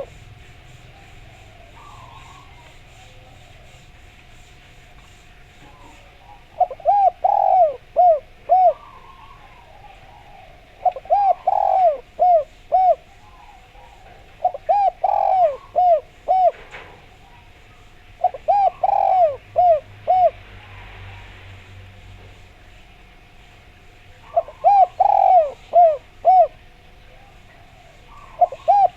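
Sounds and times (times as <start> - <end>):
dove cooing: 0.0 - 21.2, 24.0 - 28.9.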